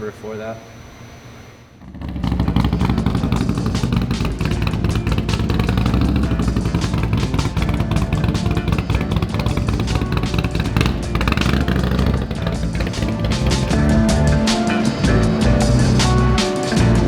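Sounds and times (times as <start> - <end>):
music with drums and guitar: 2.8 - 17.0.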